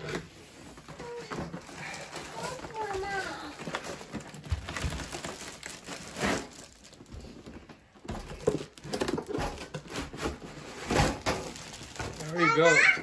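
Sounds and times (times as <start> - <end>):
cardboard and plastic wrap rustling: 0.0 - 13.0.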